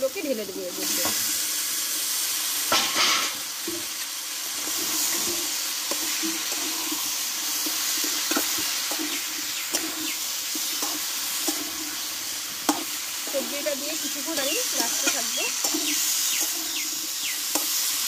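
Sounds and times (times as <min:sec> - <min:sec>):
vegetables sizzling in oil: 0:00.0 - 0:18.0
metal spatula scraping wok: 0:00.6 - 0:18.0.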